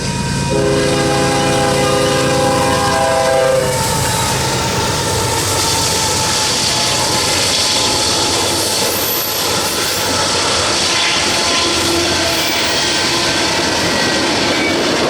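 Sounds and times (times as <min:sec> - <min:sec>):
train passing at speed: 0:00.0 - 0:15.0
wheels on rails: 0:00.0 - 0:15.0.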